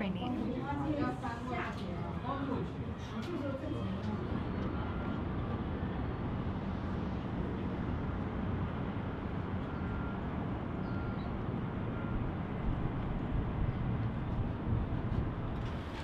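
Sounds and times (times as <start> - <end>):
distant city traffic: 0.0 - 16.0.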